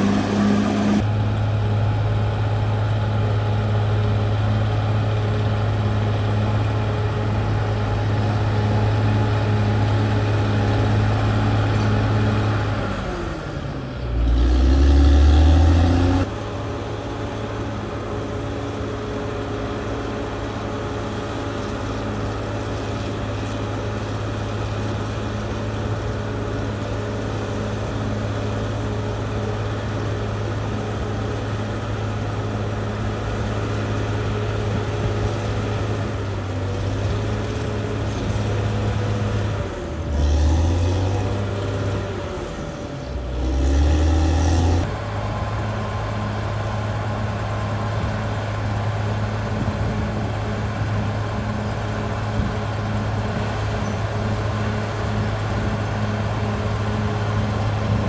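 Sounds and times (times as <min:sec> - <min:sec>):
bulldozer diesel engine running: 0:00.0 - 0:58.0
heavier lower engine sound: 0:00.0 - 0:58.0.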